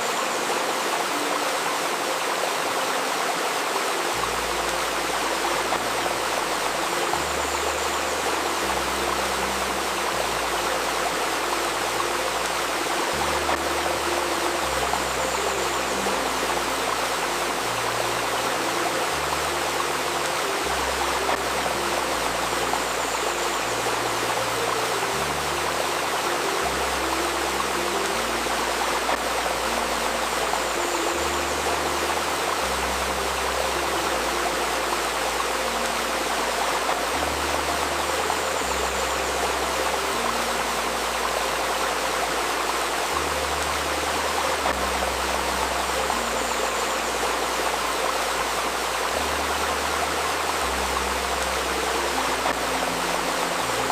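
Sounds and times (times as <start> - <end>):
stream babbling: 0.0 - 53.9.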